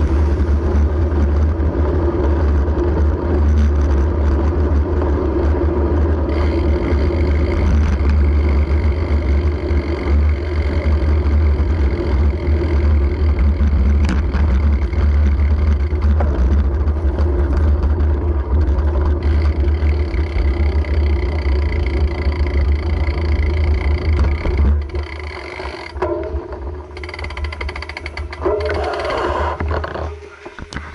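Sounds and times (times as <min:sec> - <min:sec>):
bicycle road rumble: 0:00.0 - 0:30.9.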